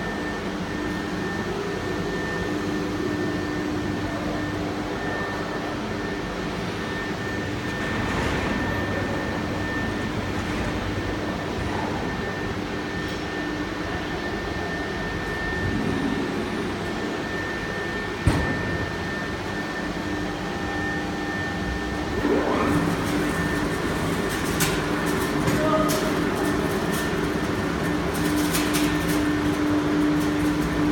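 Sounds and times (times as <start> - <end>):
cnc router running with whine: 0.0 - 30.9.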